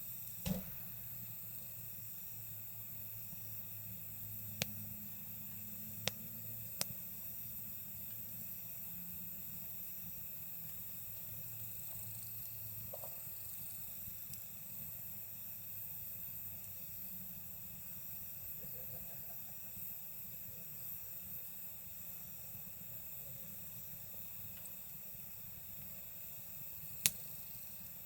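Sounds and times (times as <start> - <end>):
campfire burning: 0.0 - 28.0
faint fire crackles: 0.0 - 28.0
night insects trilling: 0.0 - 28.0.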